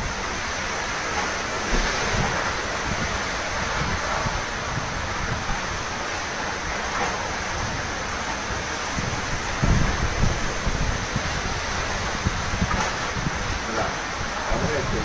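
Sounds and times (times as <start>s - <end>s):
heavy rain: 0.0s - 15.0s
strong wind: 0.0s - 15.0s
wind gusts buffeting microphone: 0.0s - 15.0s.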